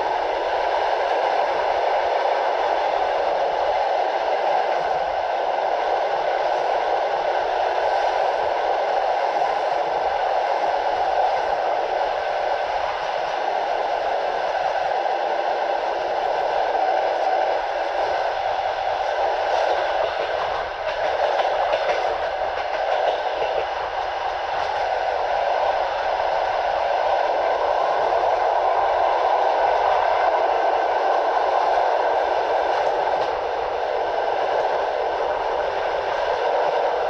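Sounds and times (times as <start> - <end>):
train wheels rolling on rails: 0.0 - 37.0.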